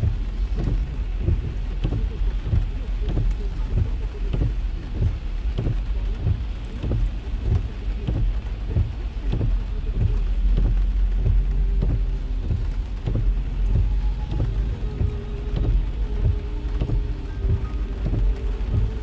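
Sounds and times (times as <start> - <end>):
heavy rain on car roof: 0.0 - 19.0
low rumble of moving car: 0.0 - 19.0.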